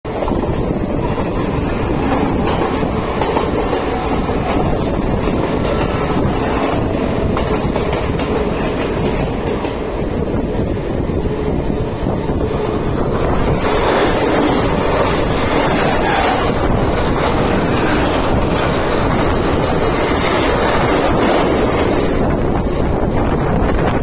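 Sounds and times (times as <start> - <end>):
train wheels rumbling on rails: 0.1 - 24.0.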